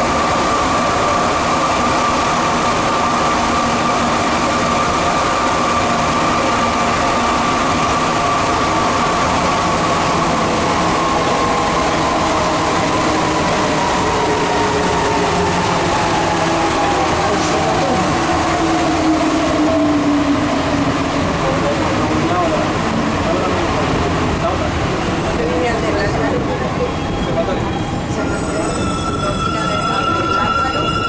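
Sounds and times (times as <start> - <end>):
train rolling rumble: 0.0 - 31.0.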